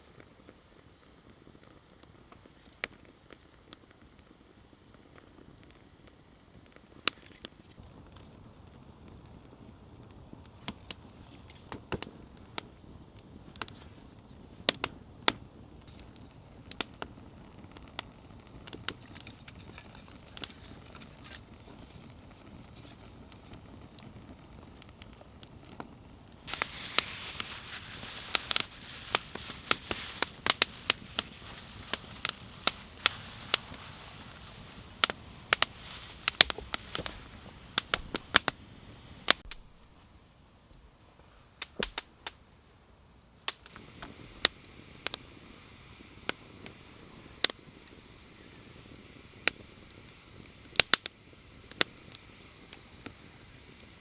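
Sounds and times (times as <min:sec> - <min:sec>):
fire hissing: 0:00.0 - 0:40.1, 0:43.5 - 0:54.0
wood campfire crackling: 0:00.0 - 0:54.0.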